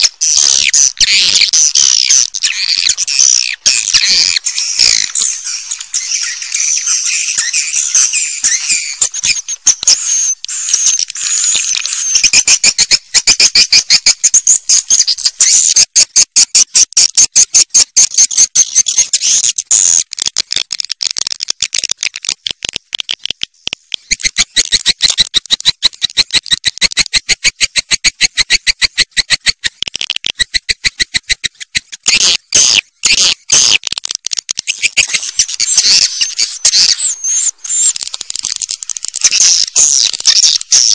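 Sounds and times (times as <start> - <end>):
birds chattering with clicking chirps: 0.0 - 40.9.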